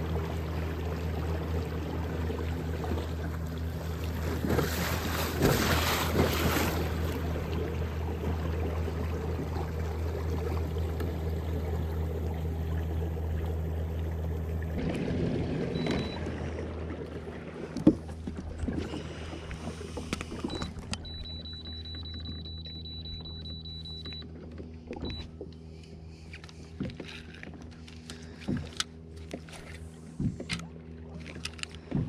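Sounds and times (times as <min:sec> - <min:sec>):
low motor hum: 0:00.0 - 0:32.0
water swishing along hull: 0:00.0 - 0:32.0.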